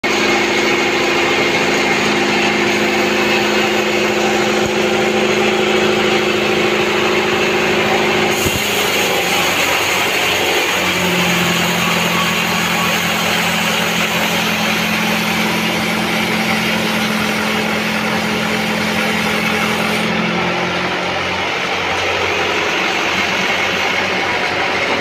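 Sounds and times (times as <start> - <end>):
motor hum: 0.0 - 25.0
band saw ripping through log: 0.1 - 25.0.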